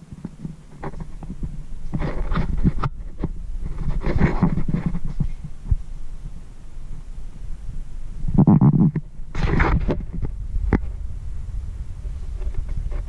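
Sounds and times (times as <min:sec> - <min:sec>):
low steady hum: 0:00.0 - 0:13.0
rustling near microphone: 0:00.0 - 0:13.0.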